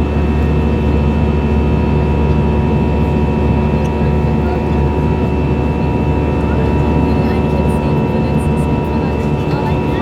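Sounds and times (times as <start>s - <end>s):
jet engine and airflow noise: 0.0s - 10.0s.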